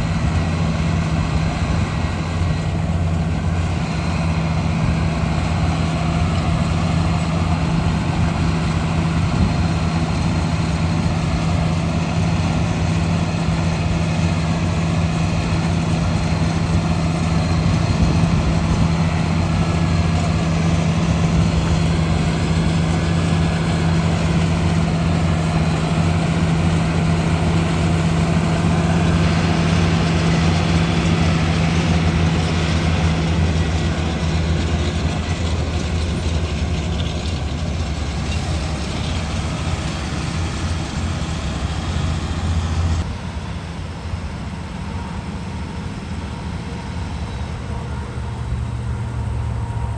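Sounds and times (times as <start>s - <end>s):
vehicle engine humming: 0.0s - 49.9s.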